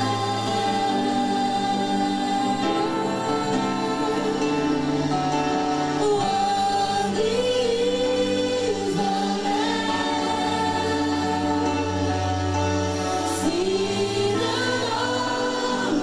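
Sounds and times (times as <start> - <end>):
voices singing gospel: 0.0 - 16.0.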